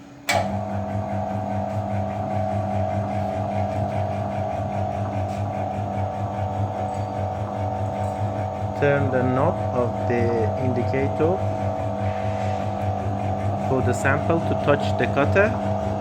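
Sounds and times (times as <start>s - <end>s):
milling machine motor humming: 0.3s - 16.0s.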